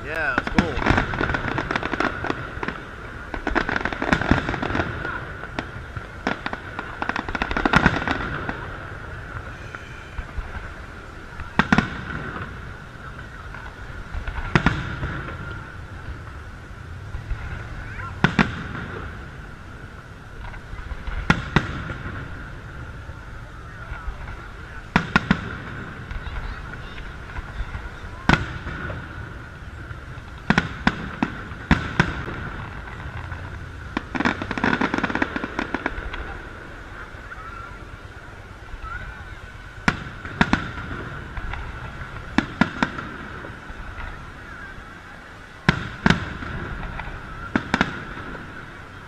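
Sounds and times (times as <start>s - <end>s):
firework bangs: 0.0s - 49.0s.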